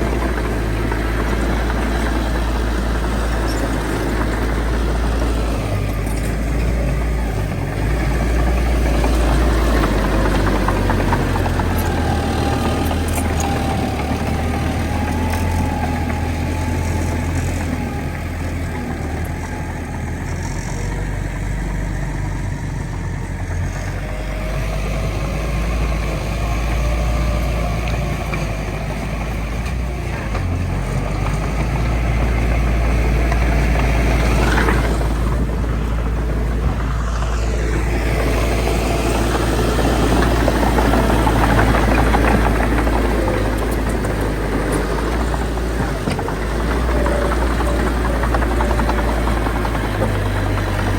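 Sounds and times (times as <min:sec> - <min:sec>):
bulldozer diesel engine rumbling: 0:00.0 - 0:50.9.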